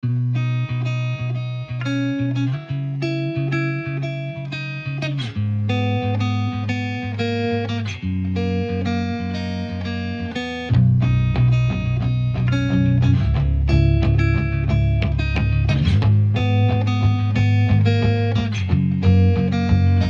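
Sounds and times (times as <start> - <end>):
guitar music with slides: 0.0 - 20.0.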